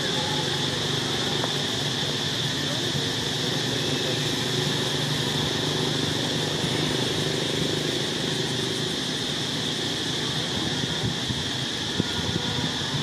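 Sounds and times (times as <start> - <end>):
engine running: 0.0 - 13.0
high-pitched drone: 0.0 - 13.0.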